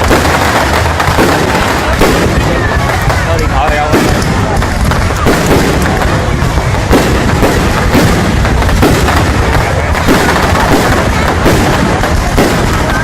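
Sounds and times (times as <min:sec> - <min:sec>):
crackle of bursting shells: 0:00.0 - 0:13.0
fireworks booming: 0:00.0 - 0:13.0.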